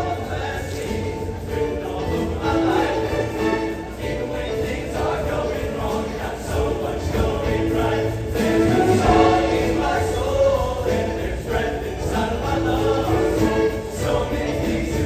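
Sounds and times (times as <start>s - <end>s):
choir singing held chords: 0.0s - 15.0s
instrumental accompaniment with bass: 0.0s - 15.0s.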